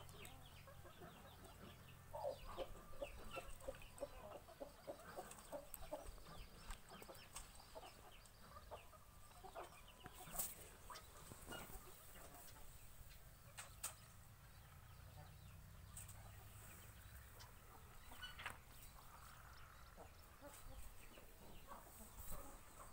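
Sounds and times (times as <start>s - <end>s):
birds clucking and chirping: 0.0s - 22.9s.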